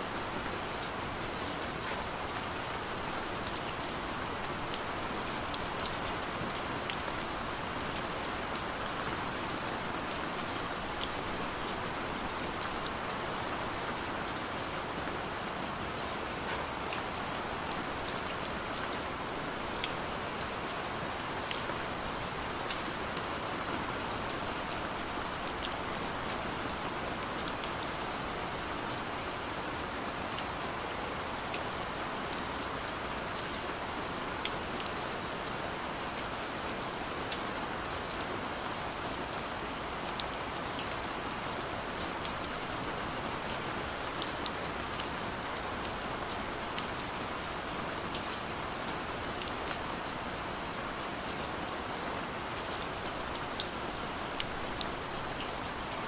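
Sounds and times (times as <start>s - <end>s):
gentle rain hiss: 0.0s - 56.0s
raindrops ticking on a surface: 0.0s - 56.0s.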